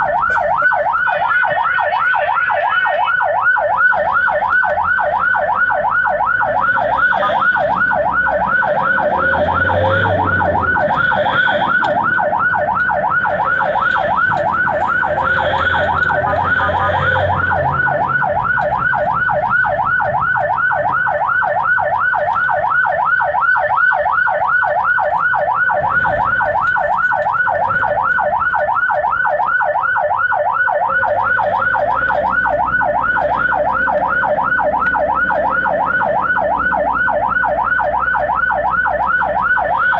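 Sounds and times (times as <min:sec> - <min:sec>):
engine and traffic rumble: 0:00.0 - 0:39.9
siren yelping: 0:00.0 - 0:39.9.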